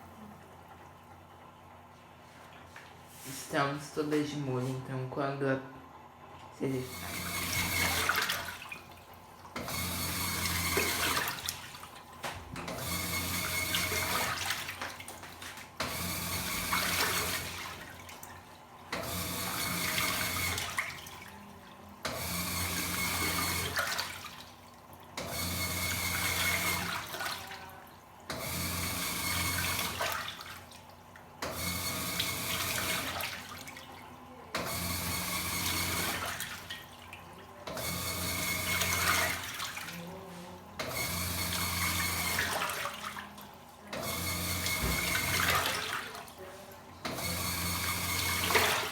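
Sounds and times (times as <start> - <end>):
washing machine motor hum: 0.0 - 48.9
water churning in drum: 6.6 - 48.9.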